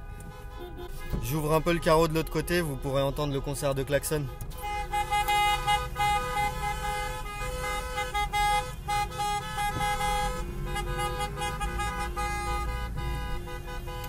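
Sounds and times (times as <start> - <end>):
car horns honking: 0.0 - 14.0.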